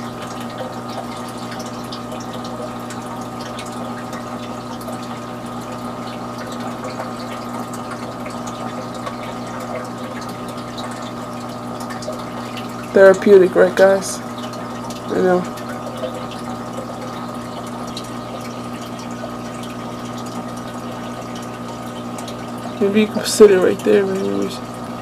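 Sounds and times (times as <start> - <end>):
water pump humming: 0.0 - 25.0
water trickling: 0.0 - 25.0.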